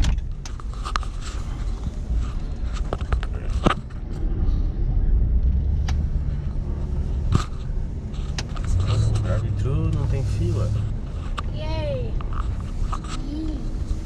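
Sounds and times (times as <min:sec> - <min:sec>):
car driving rumble inside cabin: 0:00.0 - 0:14.0.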